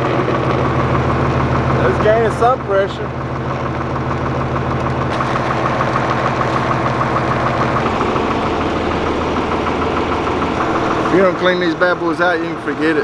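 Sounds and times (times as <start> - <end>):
engine running with rapid pulse: 0.0 - 13.0.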